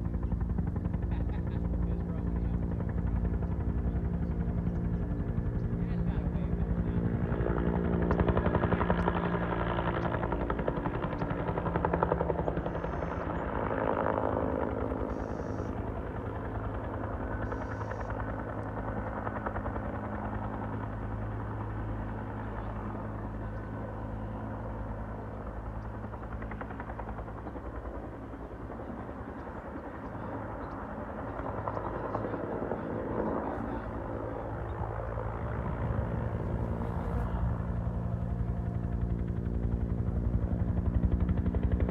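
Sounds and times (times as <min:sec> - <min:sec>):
helicopter rotor beating: 0:00.0 - 0:41.9.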